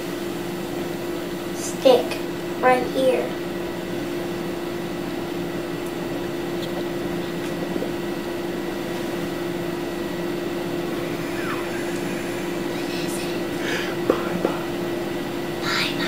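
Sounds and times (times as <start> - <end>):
background hum and hiss: 0.0 - 16.0
faint high whine: 0.0 - 16.0.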